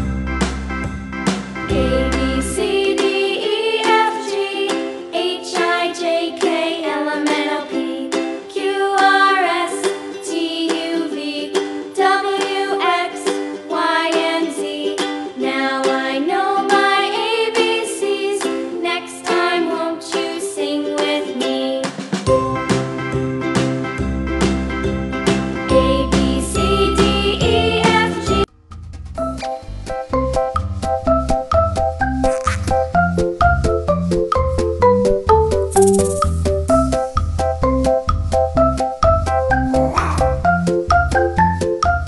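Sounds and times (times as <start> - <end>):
plucked string melody: 0.0 - 42.0.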